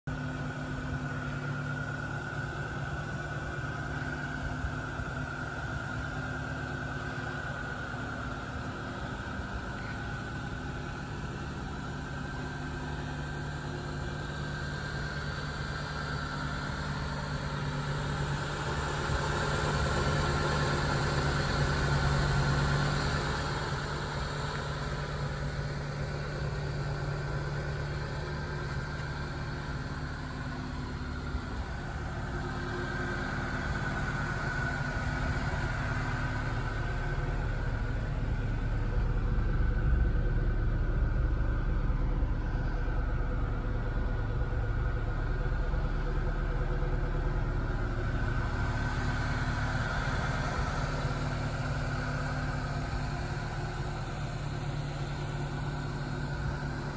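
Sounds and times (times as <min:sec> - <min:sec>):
truck engine idling: 0:00.0 - 0:56.9.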